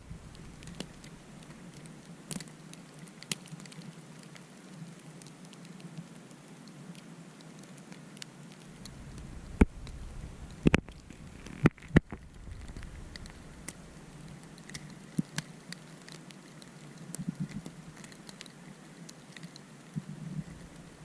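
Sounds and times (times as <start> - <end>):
wintry precipitation pattering: 0.0 - 21.0.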